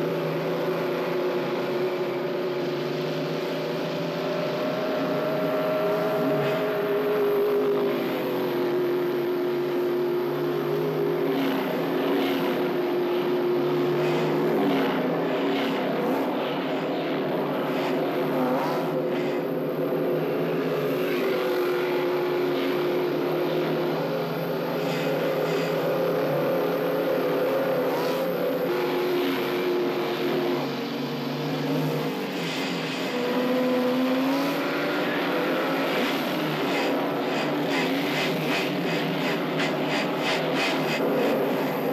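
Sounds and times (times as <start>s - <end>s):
motorcycles revving and passing: 0.0s - 41.9s.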